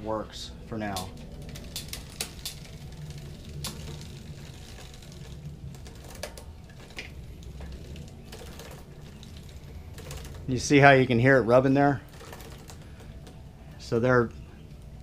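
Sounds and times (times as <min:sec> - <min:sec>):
bicycle derailleur clicking and rubbing: 0:00.7 - 0:15.0.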